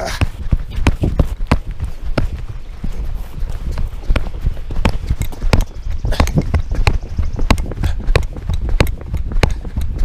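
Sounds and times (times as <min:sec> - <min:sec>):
microphone handling rumble: 0:00.0 - 0:10.0
running footsteps: 0:00.0 - 0:10.0.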